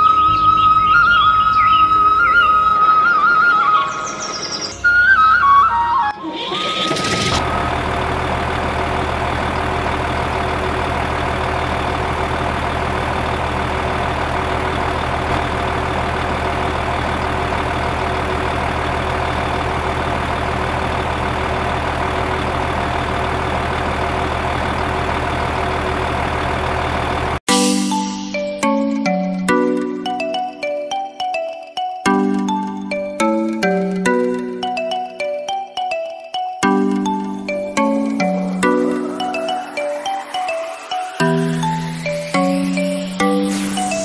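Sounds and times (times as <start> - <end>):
truck engine idling: 0.1 - 28.0, 36.6 - 44.0.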